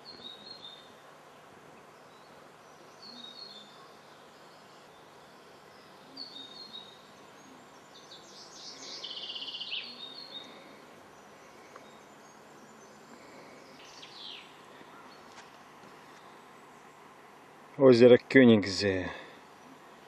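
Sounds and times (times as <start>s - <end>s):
faint outdoor hiss: 0.0s - 20.0s
songbirds singing: 0.0s - 20.0s.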